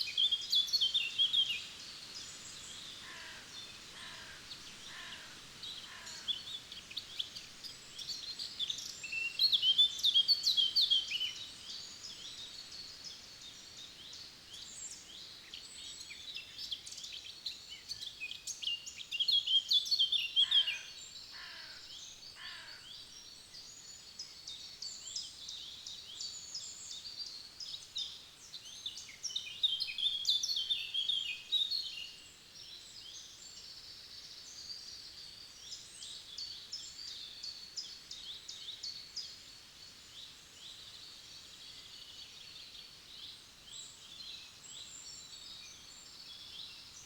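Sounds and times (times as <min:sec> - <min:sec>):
songbirds chirping and trilling: 0:00.0 - 0:47.0.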